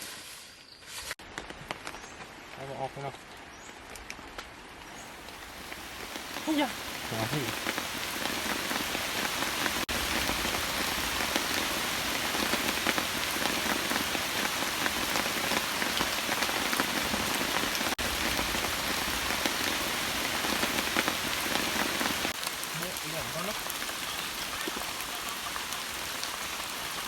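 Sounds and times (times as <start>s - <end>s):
steady rain falling: 1.2s - 27.0s.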